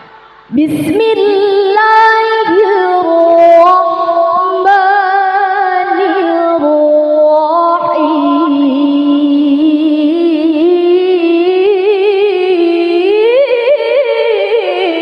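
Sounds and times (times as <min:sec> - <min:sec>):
woman reciting melodically: 0:00.5 - 0:15.0.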